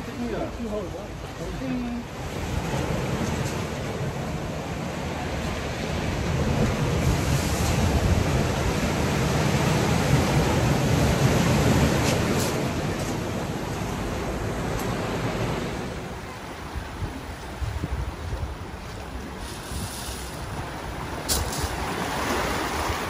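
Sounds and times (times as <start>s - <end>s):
wind rumbling on microphone: 0.0s - 23.0s
surf breaking over rocks: 0.1s - 23.0s.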